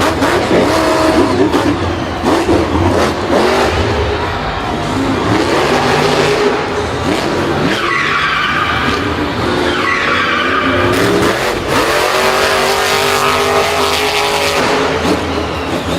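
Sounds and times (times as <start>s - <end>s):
high tyre screech: 0.0s - 15.9s
racing engines revving: 0.0s - 15.9s.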